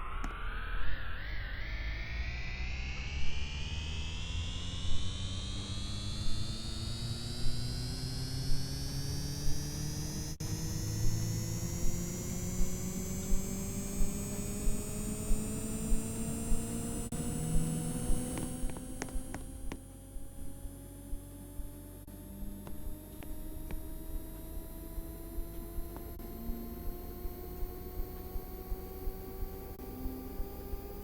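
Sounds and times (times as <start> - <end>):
washing machine spinning up: 0.6 - 31.0.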